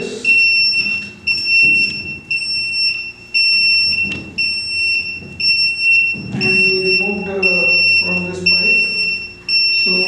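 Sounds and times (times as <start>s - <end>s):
gas detector alarm beeping: 0.0s - 10.0s.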